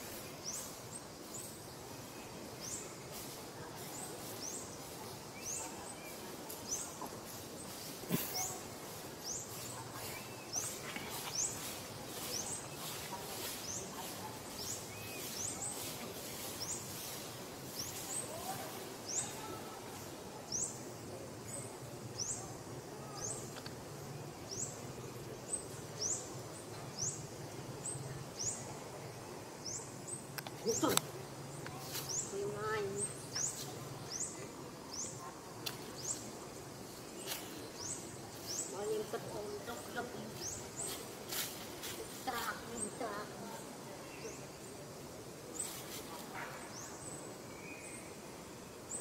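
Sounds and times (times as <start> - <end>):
outdoor background noise: 0.0 - 49.0.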